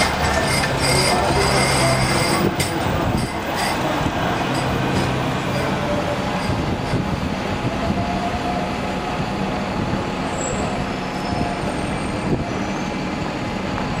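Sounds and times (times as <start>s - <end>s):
city street traffic: 0.0s - 14.0s
tram running on street track: 0.0s - 14.0s.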